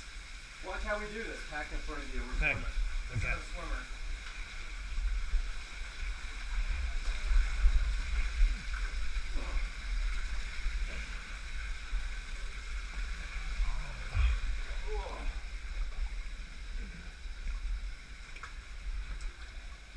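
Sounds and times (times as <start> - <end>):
low rumble against camera: 1.9 - 19.9.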